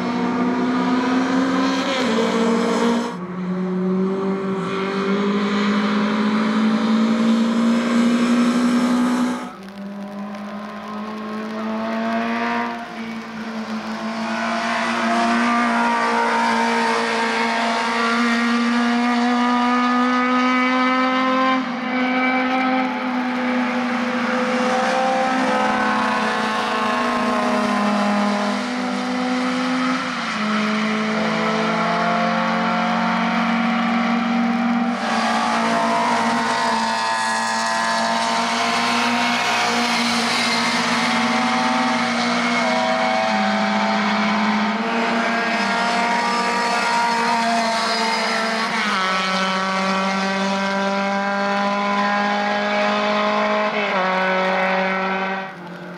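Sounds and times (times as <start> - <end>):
racing car engines revving: 0.0 - 55.9.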